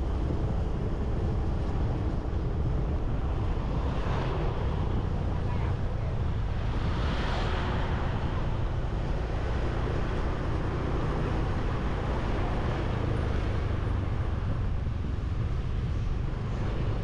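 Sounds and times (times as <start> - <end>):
motorbike engine and road rumble: 0.0 - 17.0
wind on microphone: 0.0 - 17.0.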